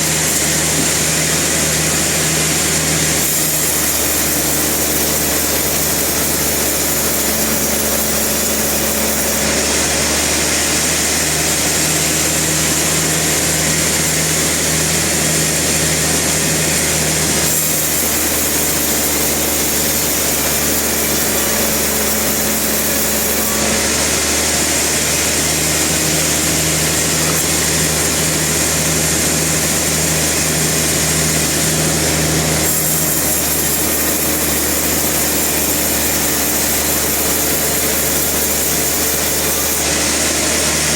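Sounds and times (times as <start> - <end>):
sawmill saw and machinery running: 0.0 - 40.9.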